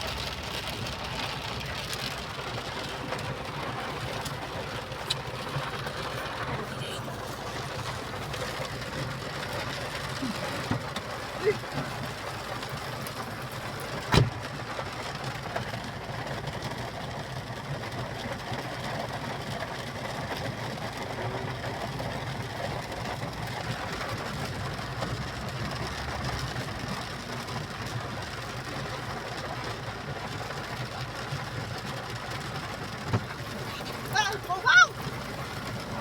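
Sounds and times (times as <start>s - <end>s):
road noise: 0.0s - 16.6s, 18.8s - 36.0s
vehicle engine running: 0.0s - 36.0s.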